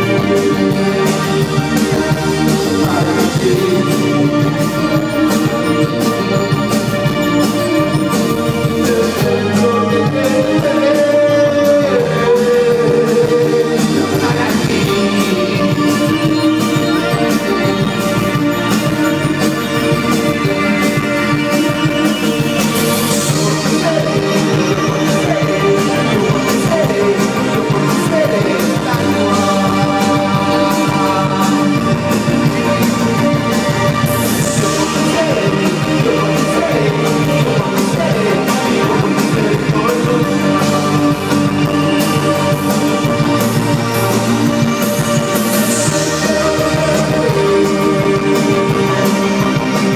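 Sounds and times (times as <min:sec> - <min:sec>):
electric guitar: 0:00.0 - 0:49.9
live band playing loud music: 0:00.0 - 0:49.9
person singing: 0:00.0 - 0:49.9
steady drum beat: 0:00.0 - 0:49.9.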